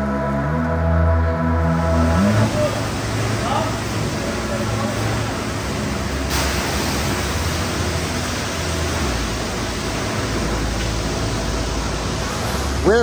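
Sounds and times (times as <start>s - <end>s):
high-pressure water spray hissing: 1.7s - 13.0s.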